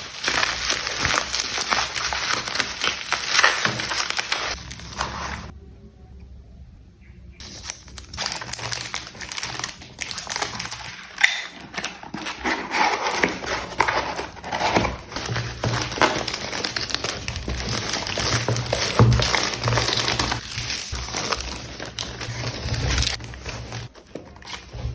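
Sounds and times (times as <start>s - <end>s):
plastic packaging crinkling: 0.0s - 5.5s, 7.4s - 24.9s.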